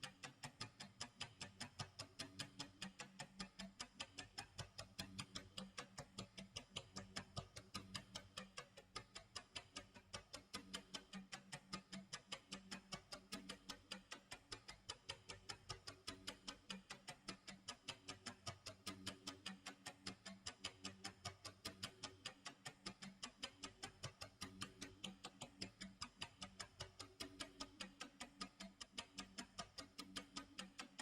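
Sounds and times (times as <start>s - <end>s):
clock ticking: 0.0s - 31.0s.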